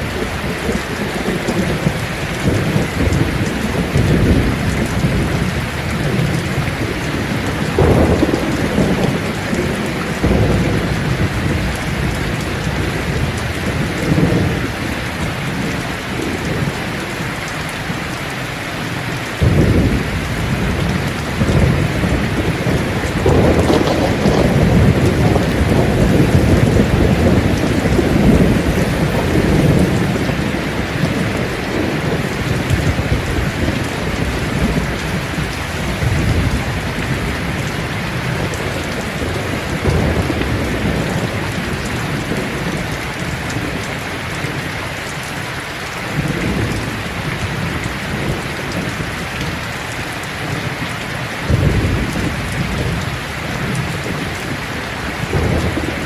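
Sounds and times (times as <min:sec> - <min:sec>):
thunder rumbling: 0:00.0 - 0:18.2, 0:18.8 - 0:45.2, 0:46.1 - 0:56.0
rain falling on leaves: 0:00.0 - 0:56.0.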